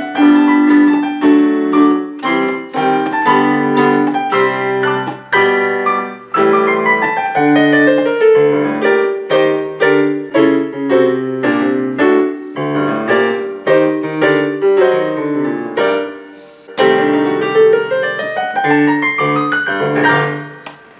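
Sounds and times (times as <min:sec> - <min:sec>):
lively piano solo: 0:00.0 - 0:20.9.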